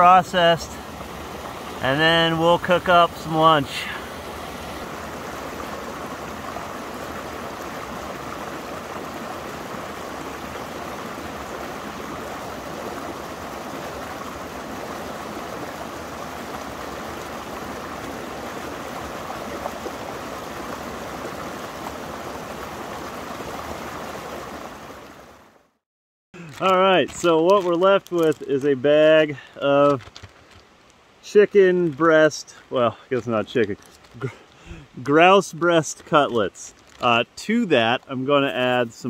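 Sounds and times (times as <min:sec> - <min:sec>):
creek water rushing over rocks: 0:00.0 - 0:25.8, 0:26.4 - 0:39.0.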